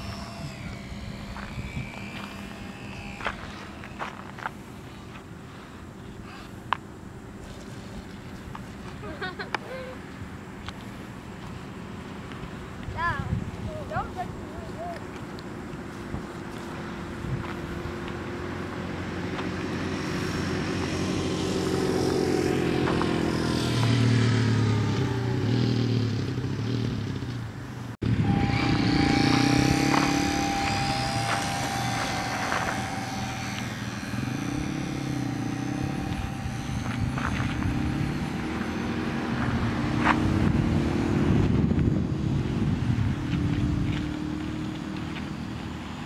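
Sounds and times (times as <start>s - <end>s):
model airplane motor whining: 0.0s - 10.0s, 12.9s - 26.9s, 28.0s - 46.0s.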